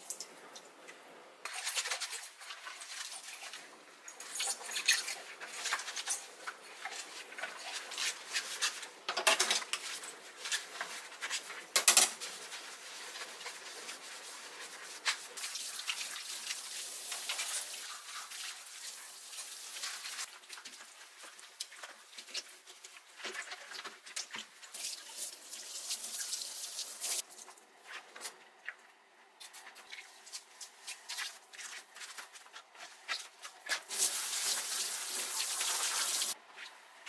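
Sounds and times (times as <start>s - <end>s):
sponge scrubbing steel sink: 1.4s - 9.0s, 9.6s - 27.2s, 29.5s - 36.7s.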